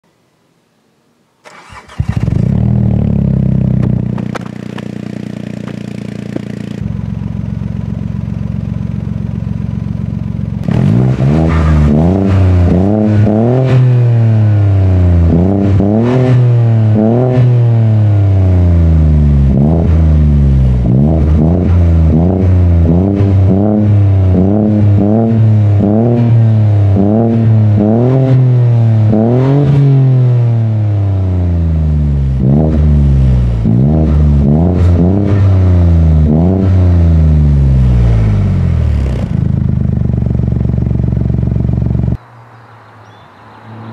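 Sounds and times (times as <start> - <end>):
car engine idling and revving: 1.5 - 43.9.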